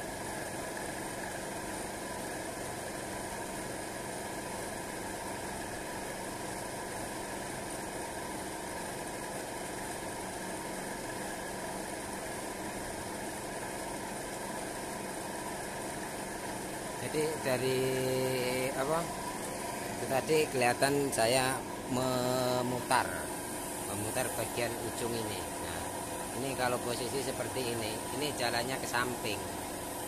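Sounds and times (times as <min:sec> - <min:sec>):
air compressor humming: 0:00.0 - 0:30.0.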